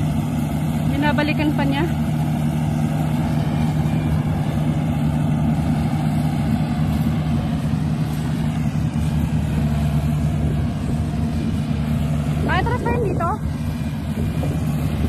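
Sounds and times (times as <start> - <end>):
combine harvester engine hum: 0.0 - 15.0.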